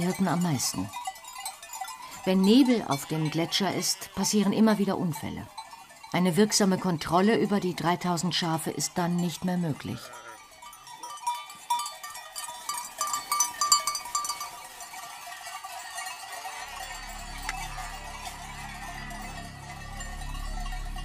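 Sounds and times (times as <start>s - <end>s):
sheep bells clanking: 0.0s - 21.0s.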